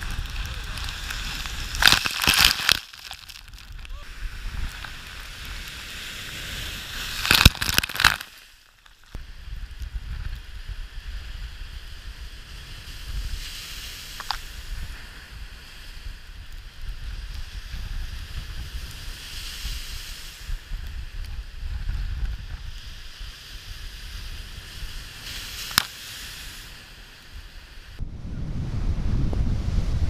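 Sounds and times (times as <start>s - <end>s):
wind buffeting microphone: 0.0s - 2.2s, 3.4s - 7.8s, 9.1s - 25.6s, 27.9s - 30.0s
waves breaking on shore: 0.0s - 28.0s.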